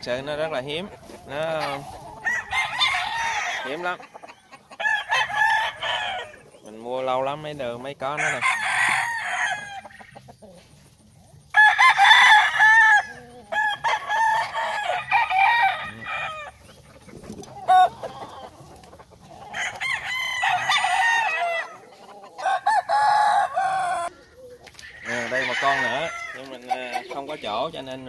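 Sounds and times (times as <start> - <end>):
roosters crowing: 0.0 - 28.0.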